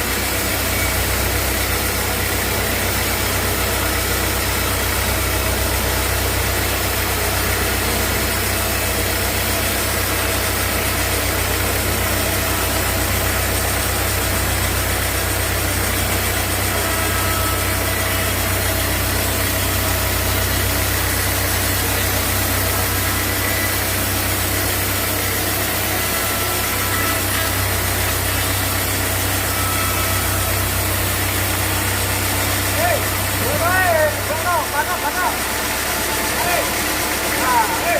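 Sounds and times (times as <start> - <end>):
sawmill machinery drone: 0.0 - 37.9.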